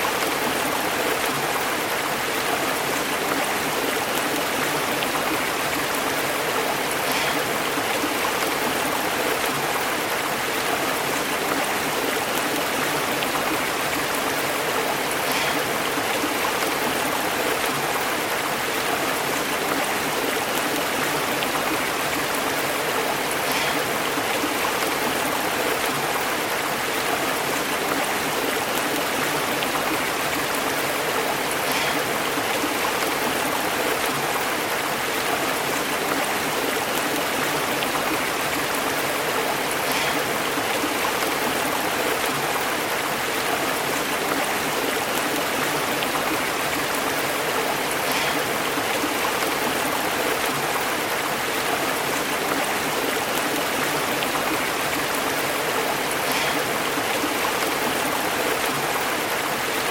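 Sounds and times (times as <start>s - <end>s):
small water splashes: 0.0s - 59.9s
stream flowing over rocks: 0.0s - 59.9s.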